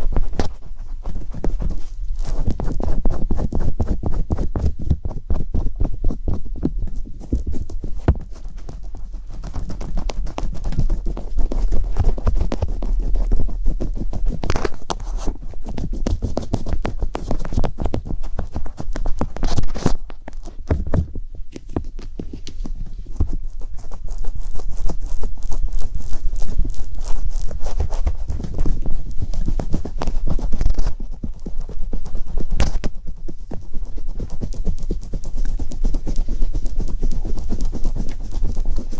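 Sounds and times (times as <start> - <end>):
rapid tapping and clicking: 0.0 - 38.9.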